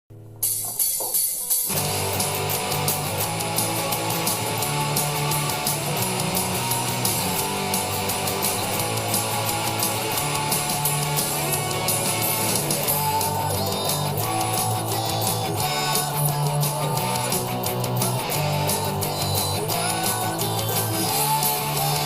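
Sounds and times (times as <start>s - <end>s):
distorted electric guitar punk song: 0.4s - 22.0s.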